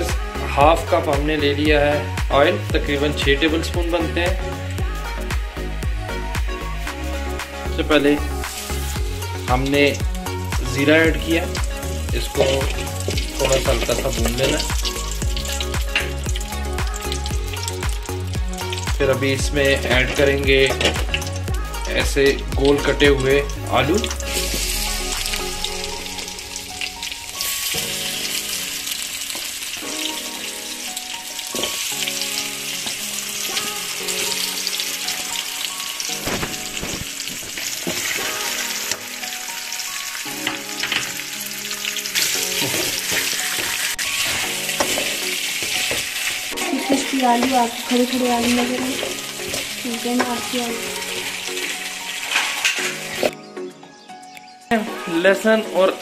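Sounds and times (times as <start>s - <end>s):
potatoes sizzling in hot oil: 7.8s - 53.4s.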